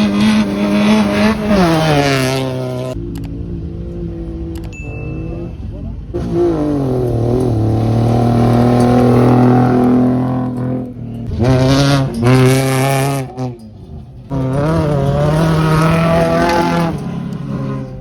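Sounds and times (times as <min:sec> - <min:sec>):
racing car engines revving: 0:00.0 - 0:18.0.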